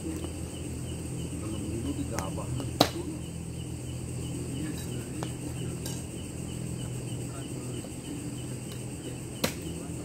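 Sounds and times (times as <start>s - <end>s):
night insects chirring: 0.0s - 10.0s.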